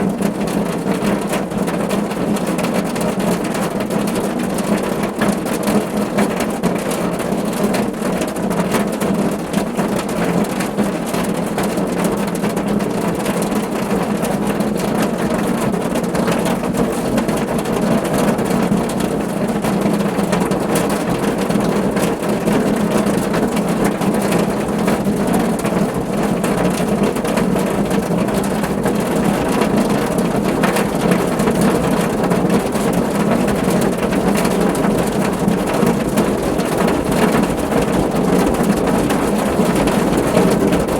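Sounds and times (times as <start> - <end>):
rain on a car roof: 0.0 - 40.9.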